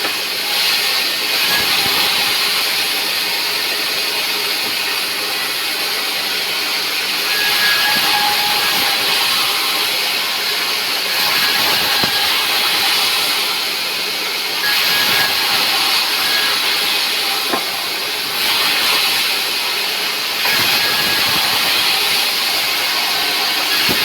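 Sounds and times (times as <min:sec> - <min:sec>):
sawmill saw running: 0:00.0 - 0:24.0.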